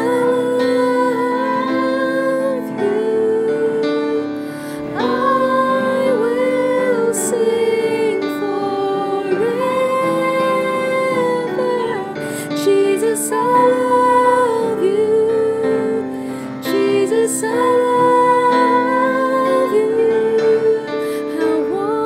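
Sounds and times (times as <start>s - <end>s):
sustained instrumental accompaniment: 0.0s - 22.0s
woman singing long notes: 0.0s - 22.0s.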